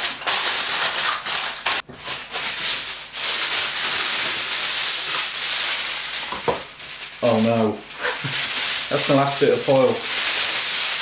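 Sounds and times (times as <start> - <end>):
aluminium foil crinkling: 0.0 - 11.0
foil pulled off the roll: 0.0 - 11.0.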